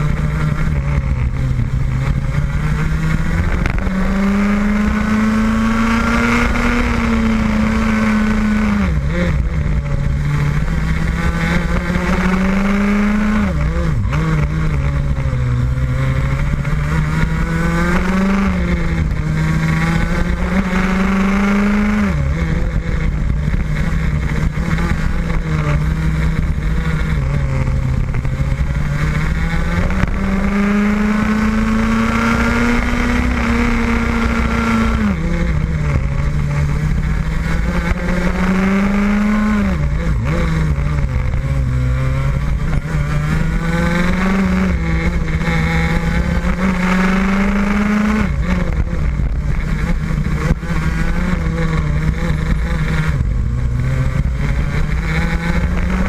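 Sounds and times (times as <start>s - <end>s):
kart engine racing: 0.0s - 56.0s.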